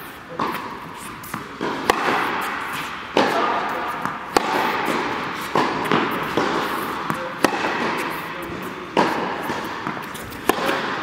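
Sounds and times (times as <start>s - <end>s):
tennis balls bouncing on court: 0.3s - 11.0s
tennis balls struck by rackets: 0.3s - 11.0s.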